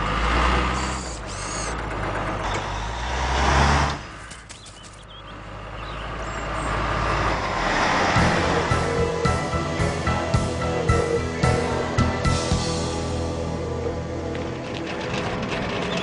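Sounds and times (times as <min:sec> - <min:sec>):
engine noise: 0:00.0 - 0:16.0
low engine rumble: 0:00.0 - 0:16.0.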